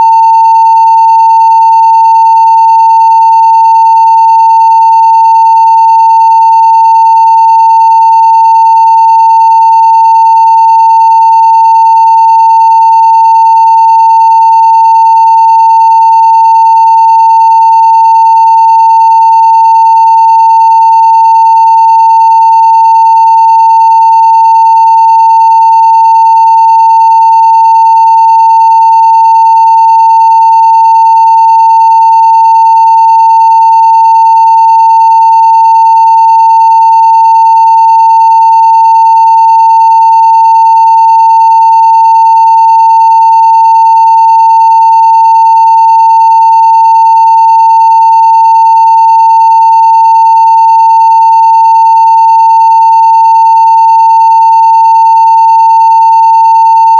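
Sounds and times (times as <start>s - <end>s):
steady sine-wave test tone: 0.0s - 56.9s.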